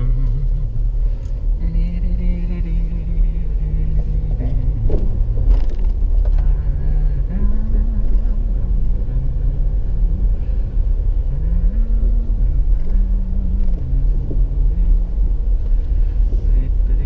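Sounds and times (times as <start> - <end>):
car road and engine rumble: 0.0 - 17.0
low hum changing pitch: 0.0 - 17.0.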